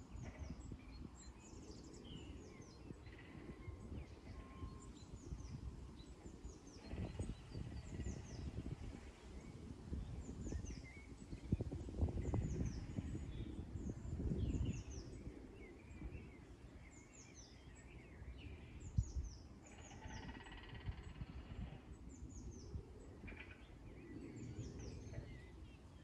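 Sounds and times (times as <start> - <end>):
small birds chirping: 0.0 - 26.0
wind rumbling on microphone: 0.0 - 26.0.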